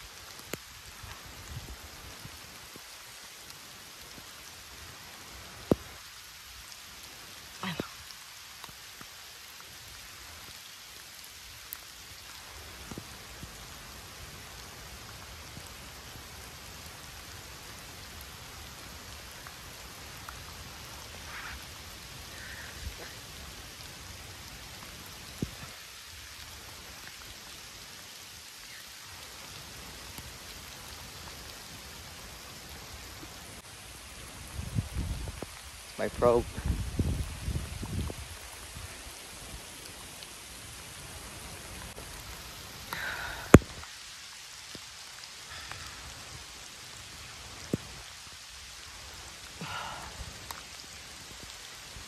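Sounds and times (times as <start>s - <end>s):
faint taps of raindrops: 0.0s - 52.0s
steady rain hiss: 0.0s - 52.0s.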